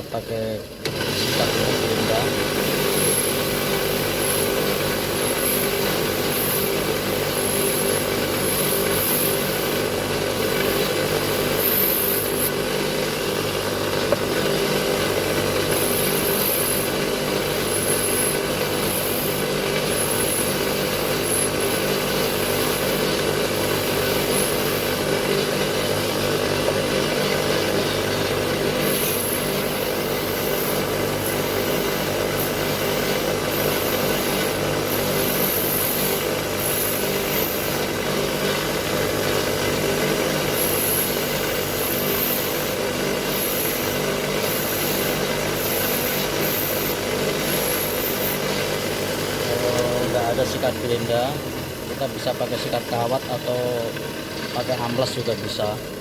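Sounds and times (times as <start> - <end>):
wire brush grinder hum: 0.0 - 56.0.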